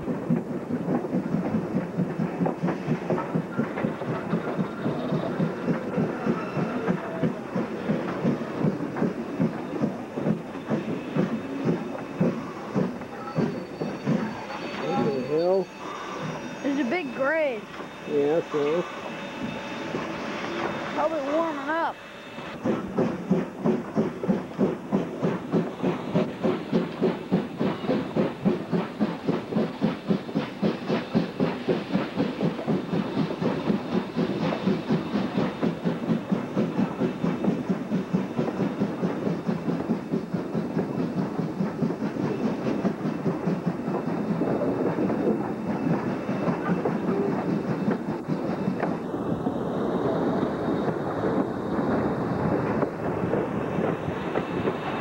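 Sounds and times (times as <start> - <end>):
steam locomotive exhaust chuffing: 0.0 - 55.0.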